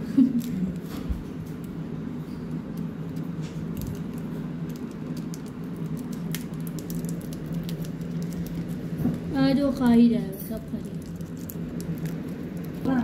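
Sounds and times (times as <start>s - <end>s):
steady low hum: 0.0s - 13.0s
plastic wrapper crinkling: 0.2s - 13.0s.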